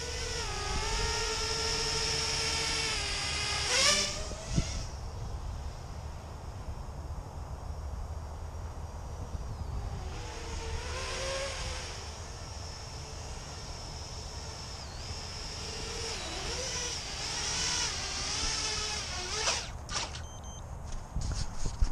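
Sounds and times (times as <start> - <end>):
quadcopter motors whining: 0.0 - 7.0, 8.7 - 20.6.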